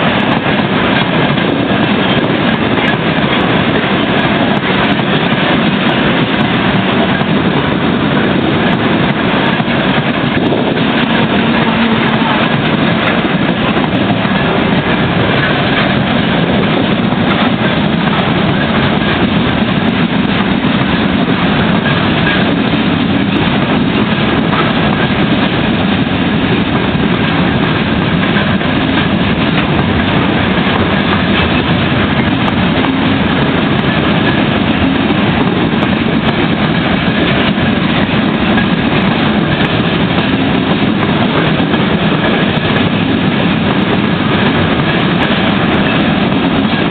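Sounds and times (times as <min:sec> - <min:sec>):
train wheels running on rails: 0:00.0 - 0:46.9.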